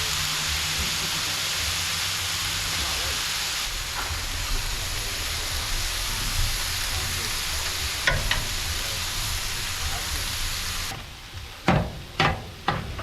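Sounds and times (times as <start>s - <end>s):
food sizzling on griddle: 0.0s - 13.0s.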